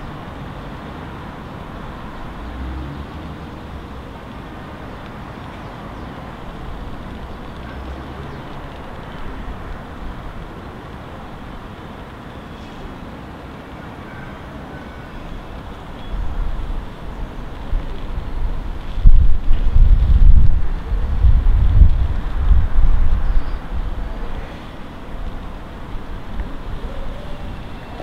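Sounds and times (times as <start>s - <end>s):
distant road traffic rumble: 0.0s - 28.0s.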